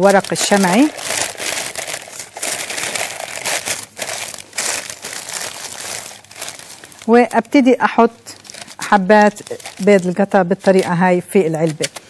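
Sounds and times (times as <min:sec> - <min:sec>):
baking paper crinkling: 0:00.0 - 0:12.0.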